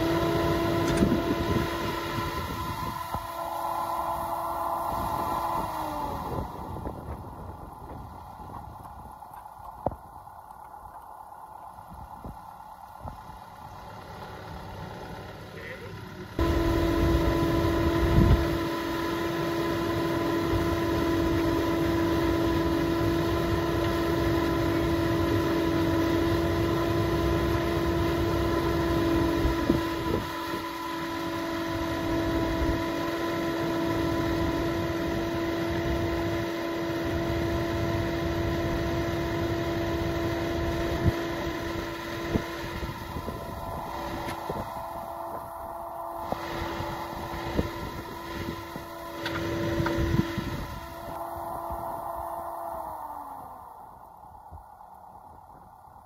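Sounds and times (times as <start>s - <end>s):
excavator engine rumble and whine: 0.0s - 56.0s.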